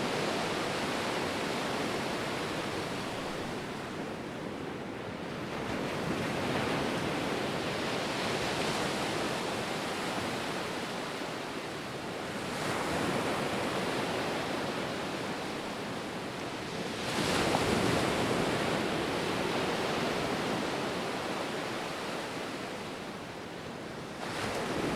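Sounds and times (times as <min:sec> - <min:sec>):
ocean waves breaking on shore: 0:00.0 - 0:24.9.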